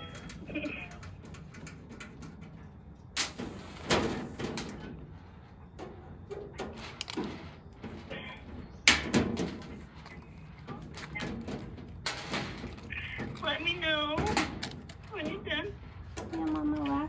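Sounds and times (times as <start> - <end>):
sheet metal scraping and clunking: 0.0 - 17.0.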